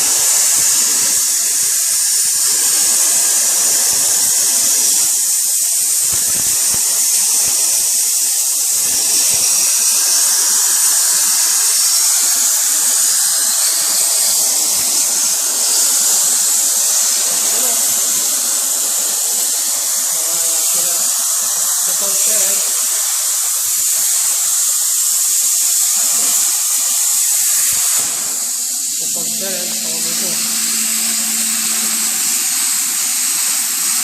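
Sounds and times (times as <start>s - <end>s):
plasma torch hissing: 0.0s - 34.0s.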